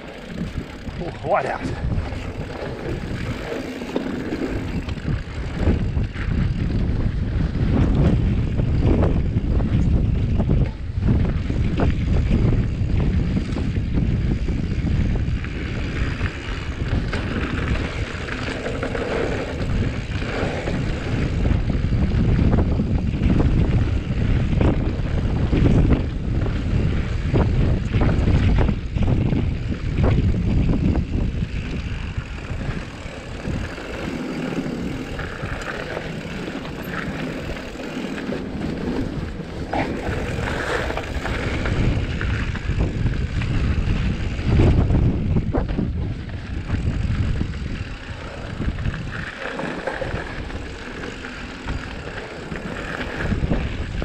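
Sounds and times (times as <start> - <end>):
bike rattling and knocking: 0.0 - 54.0
wind buffeting microphone: 0.0 - 54.0.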